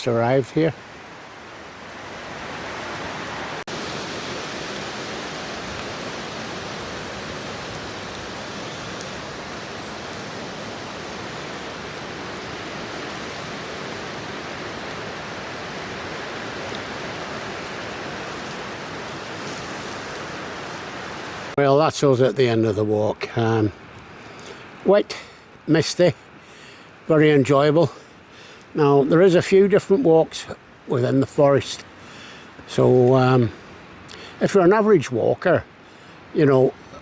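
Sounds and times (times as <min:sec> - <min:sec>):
rushing river and waterfalls: 0:00.0 - 0:37.0.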